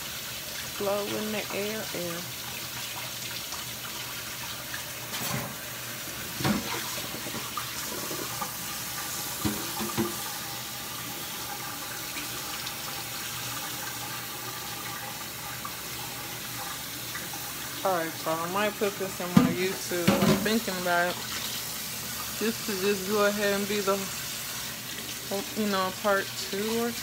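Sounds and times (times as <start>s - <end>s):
water running from tap: 0.0s - 27.0s.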